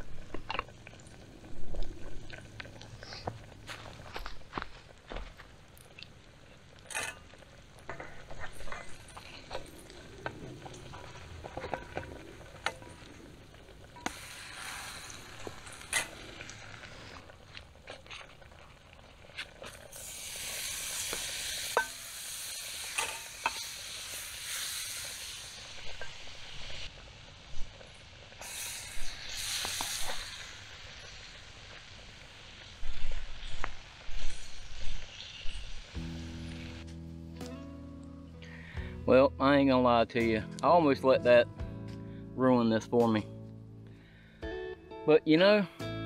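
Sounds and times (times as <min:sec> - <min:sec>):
butter sizzling in pan: 0:00.0 - 0:37.0
batter sizzling: 0:00.0 - 0:37.5.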